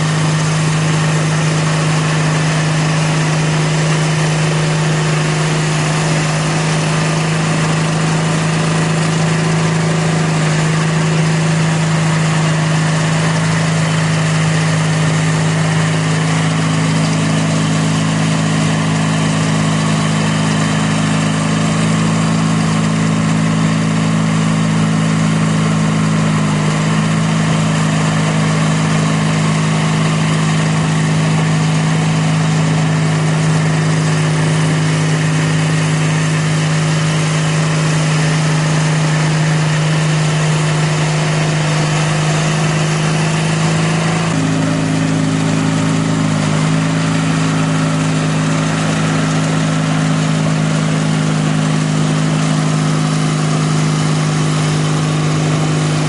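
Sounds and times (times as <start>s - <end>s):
snowblower throwing snow: 0.0s - 56.0s
tractor engine running under load: 0.0s - 56.0s.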